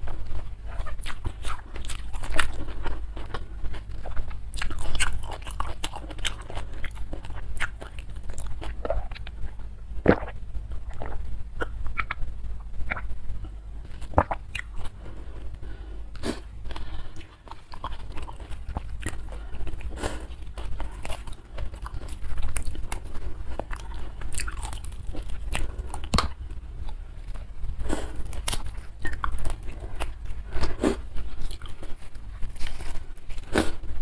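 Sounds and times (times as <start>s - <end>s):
chewing and crunching food: 0.0s - 34.0s.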